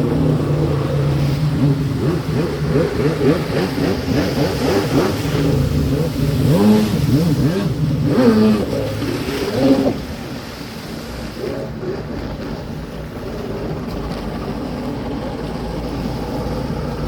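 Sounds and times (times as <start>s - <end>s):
jet-ski engines revving: 0.0s - 17.0s.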